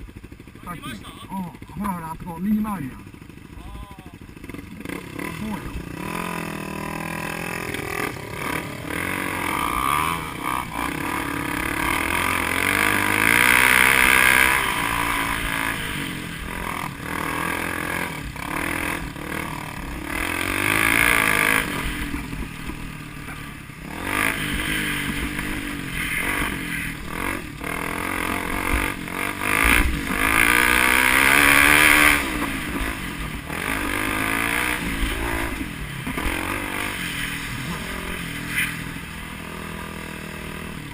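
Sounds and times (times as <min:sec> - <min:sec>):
vehicle engines revving: 0:00.0 - 0:40.9.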